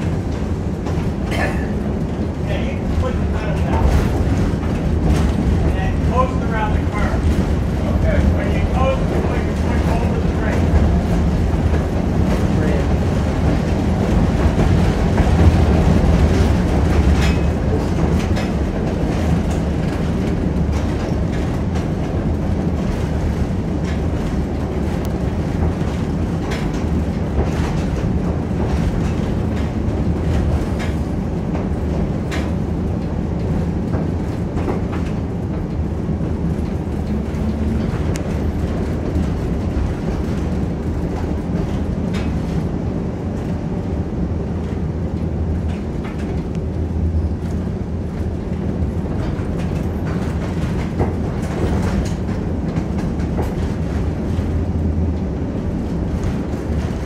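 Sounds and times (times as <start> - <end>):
rail clicks and clacks: 0.0 - 57.0
streetcar wheels rumbling: 0.0 - 57.0.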